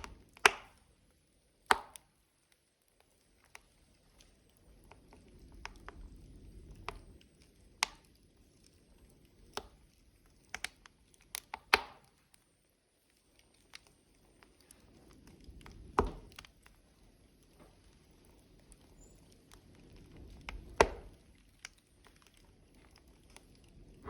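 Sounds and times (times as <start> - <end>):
logs crackling in a wood stove: 0.0 - 24.0
soft low rush of fire: 0.0 - 24.0.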